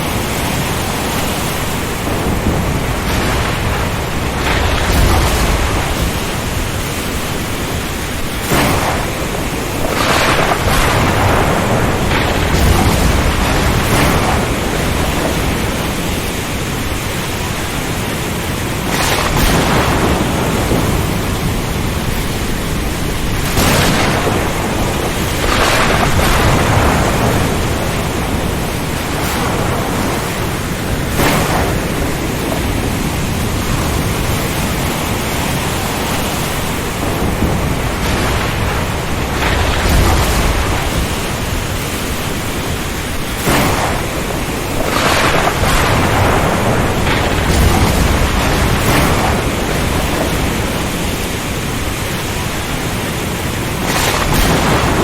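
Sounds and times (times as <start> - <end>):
rain: 0.0 - 55.0
surf: 0.0 - 55.0
wind: 0.0 - 55.0.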